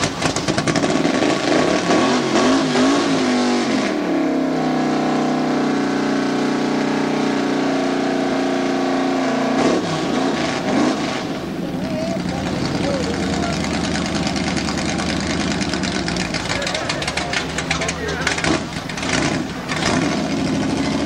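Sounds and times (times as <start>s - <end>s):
truck engine revving: 0.0s - 21.0s
truck pushing through muddy water: 0.0s - 21.0s.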